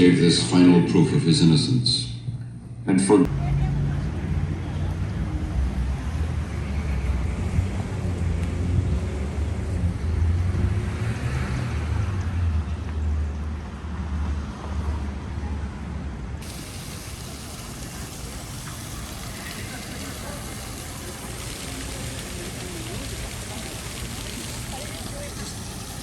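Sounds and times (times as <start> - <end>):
road noise: 0.0 - 26.0
vehicle engine rumble: 2.2 - 26.0.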